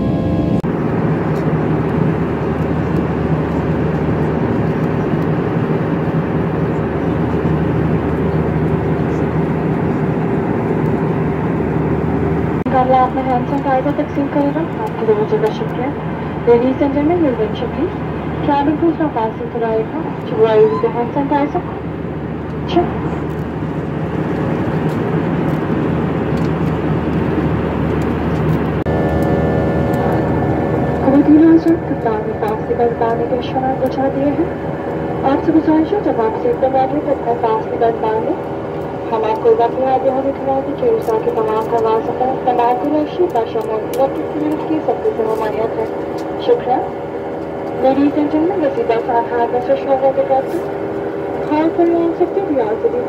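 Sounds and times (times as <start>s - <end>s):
airliner cabin drone: 0.0s - 53.0s
low steady hum: 0.0s - 53.0s.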